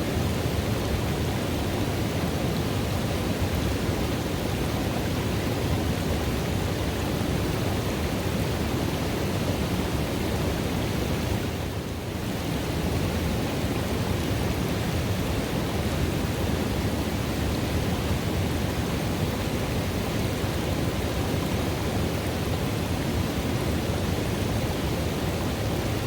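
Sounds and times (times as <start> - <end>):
river water rushing: 0.1 - 26.0.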